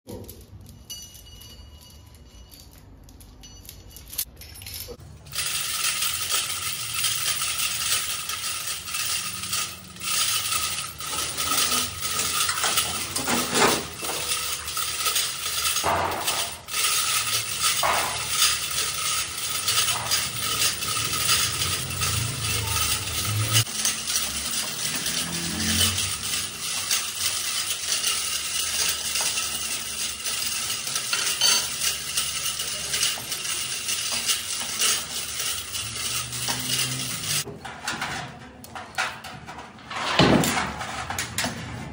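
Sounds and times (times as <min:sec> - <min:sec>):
chains clinking and rattling: 0:00.1 - 0:38.1
workshop noise: 0:00.1 - 0:41.9.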